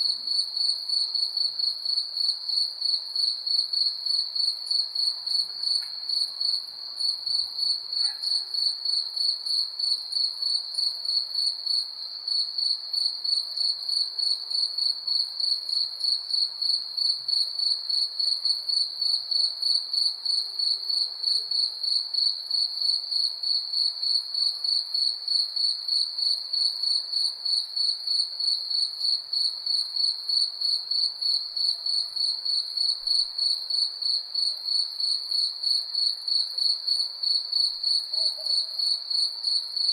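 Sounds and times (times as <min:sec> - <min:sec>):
faint background hiss: 0:00.0 - 0:39.9
crickets chirping: 0:00.3 - 0:39.9.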